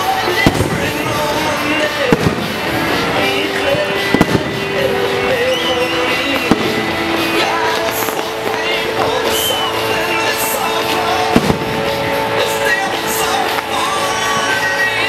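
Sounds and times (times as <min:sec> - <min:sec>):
firework bangs: 0:00.0 - 0:15.0
music playing: 0:00.0 - 0:15.0.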